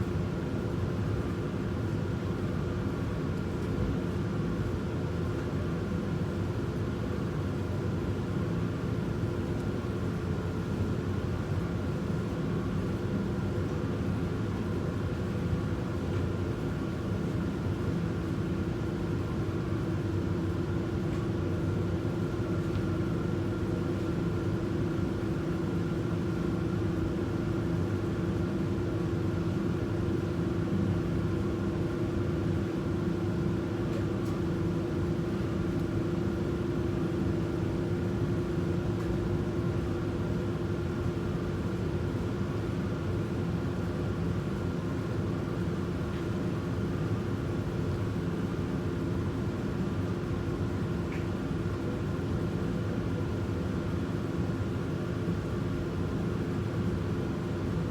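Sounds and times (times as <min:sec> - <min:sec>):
laundry machines humming: 0:07.6 - 0:57.9.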